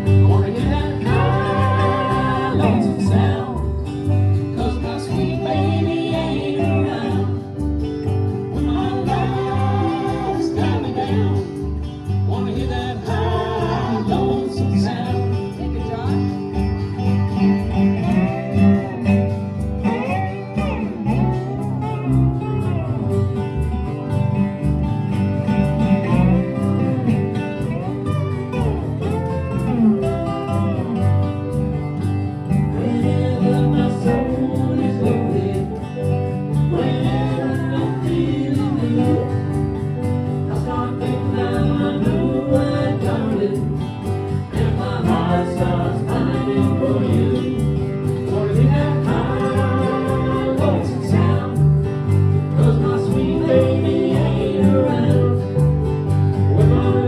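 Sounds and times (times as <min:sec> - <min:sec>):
person singing: 0:00.0 - 0:16.6, 0:17.3 - 0:22.7, 0:32.6 - 0:57.0
acoustic guitar: 0:00.0 - 0:57.0
plucked strings: 0:00.0 - 0:57.0.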